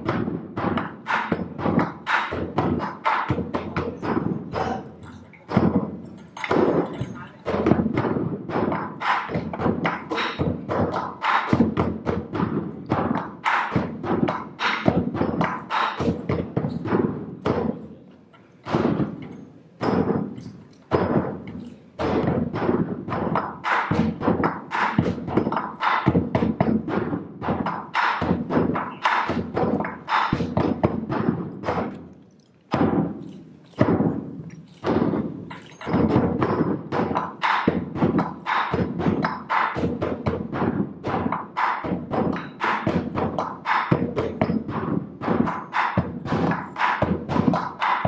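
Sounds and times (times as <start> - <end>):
barrel drums beaten with sticks: 0.0 - 18.0, 18.6 - 32.1, 32.7 - 48.0.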